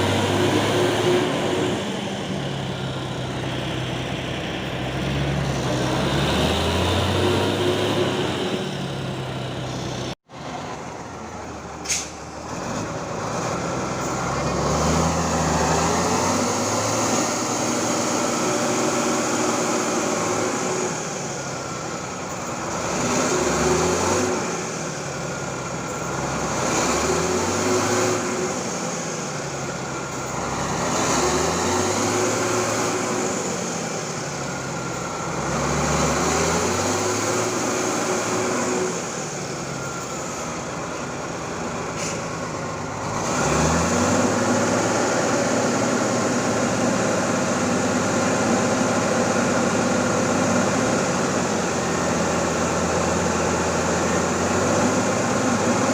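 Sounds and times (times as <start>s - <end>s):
diesel truck engine revving: 0.0s - 55.9s.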